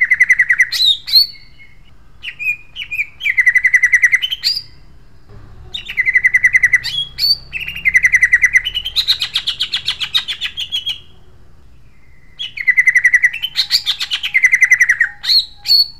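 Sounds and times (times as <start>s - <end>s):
bird singing harsh song: 0.0s - 15.9s.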